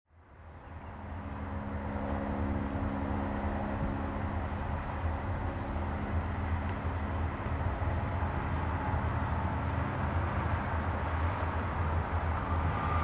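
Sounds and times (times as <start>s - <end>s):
distant locomotive engine drone: 0.1s - 13.0s.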